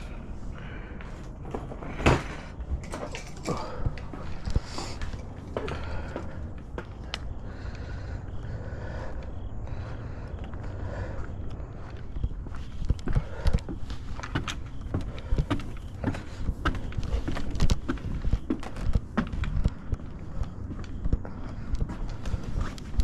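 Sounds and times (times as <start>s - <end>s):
steady low rumble: 0.0s - 23.0s
footsteps on deck boards: 3.5s - 23.0s.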